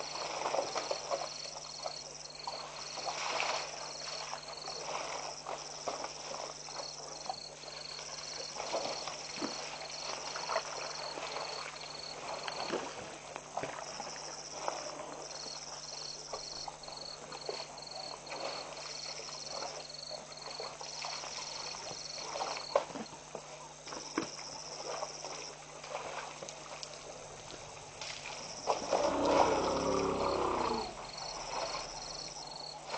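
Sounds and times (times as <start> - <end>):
high insect trill: 0.0 - 23.1, 23.8 - 32.9
elephants splashing in water: 0.0 - 32.9
insects chirping: 0.0 - 32.9.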